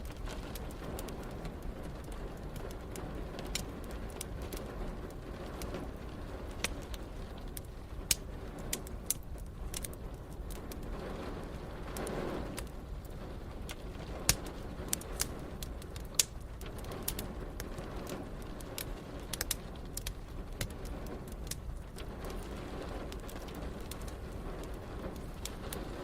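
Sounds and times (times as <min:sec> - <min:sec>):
gentle rain hiss: 0:00.0 - 0:26.0
wood fire crackling: 0:00.0 - 0:26.0.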